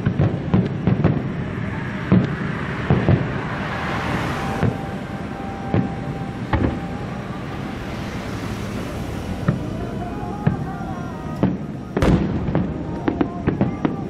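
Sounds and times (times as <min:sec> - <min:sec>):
distant fireworks booming: 0:00.0 - 0:14.0
road traffic rushing: 0:00.0 - 0:14.0.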